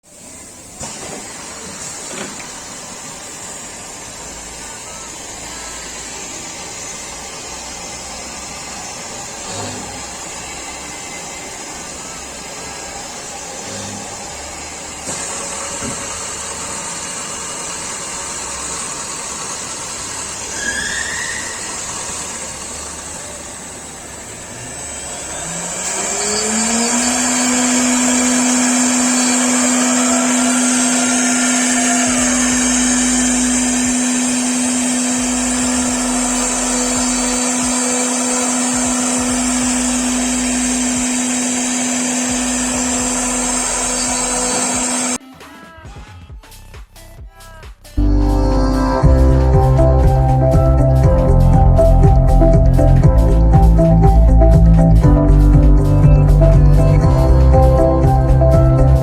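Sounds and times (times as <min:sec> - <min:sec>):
spindle motor whine: 0:00.0 - 0:45.2, 0:48.0 - 0:59.0
woodworking machine running: 0:00.0 - 0:45.2, 0:48.0 - 0:59.0.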